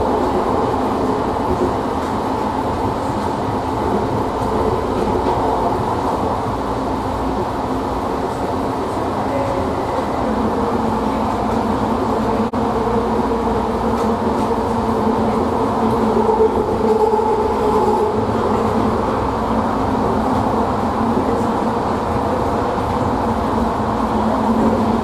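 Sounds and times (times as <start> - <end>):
train car running rumble: 0.0 - 25.0.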